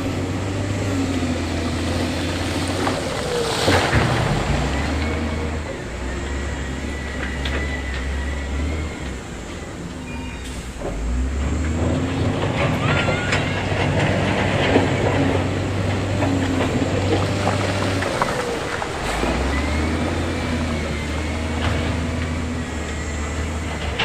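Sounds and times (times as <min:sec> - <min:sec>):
diesel engine running: 0:00.0 - 0:24.0
metallic squeals and clanks: 0:03.0 - 0:24.0.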